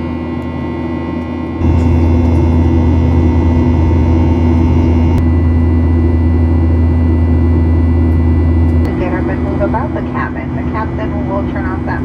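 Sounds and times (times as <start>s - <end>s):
airplane cabin drone: 0.0s - 12.0s
faint steady whine: 0.0s - 12.0s.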